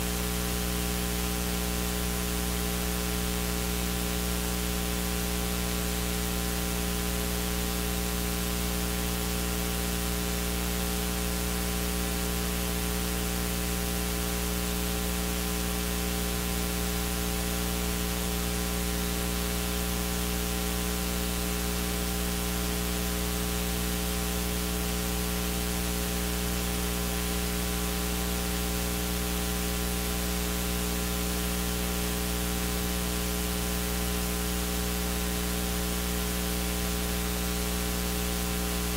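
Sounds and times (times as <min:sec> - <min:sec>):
electrical mains hum with hiss: 0:00.0 - 0:38.9.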